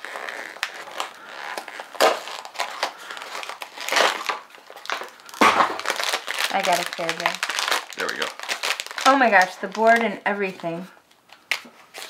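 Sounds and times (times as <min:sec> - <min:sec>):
cardboard packaging crinkling: 0:00.0 - 0:12.0.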